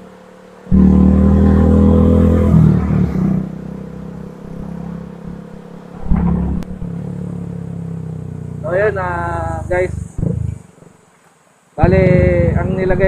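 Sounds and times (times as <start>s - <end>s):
vehicle engine running loudly: 0.0s - 10.8s
road noise: 0.0s - 13.0s.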